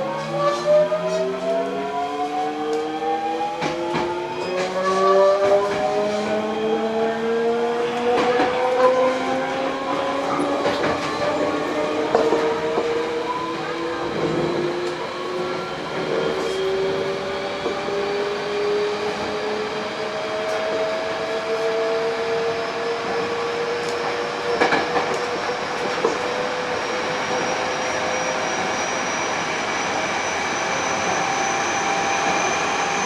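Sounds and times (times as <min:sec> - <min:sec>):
train inverter whine rising: 0:00.0 - 0:33.0.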